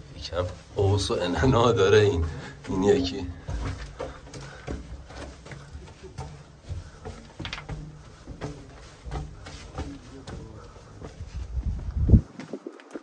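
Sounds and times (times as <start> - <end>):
footsteps on gritty rock floor: 0.0 - 13.0.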